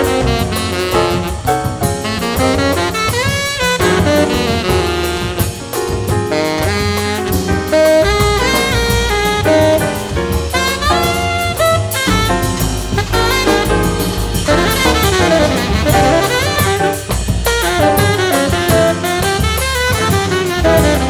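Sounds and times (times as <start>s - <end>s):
drum kit: 0.0s - 21.0s
saxophone playing jazz: 0.0s - 21.0s.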